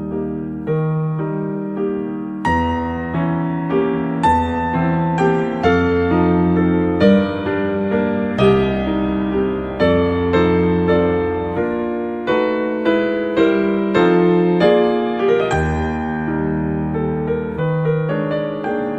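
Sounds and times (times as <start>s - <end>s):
piano music: 0.0s - 18.9s.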